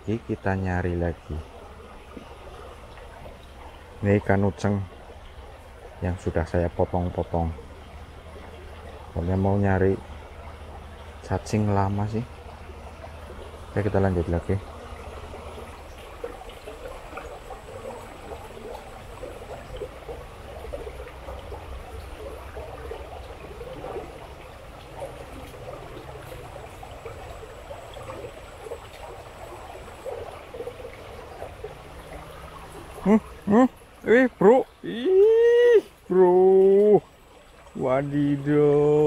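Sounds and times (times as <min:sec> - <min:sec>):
water flowing and gurgling: 0:00.0 - 0:39.0.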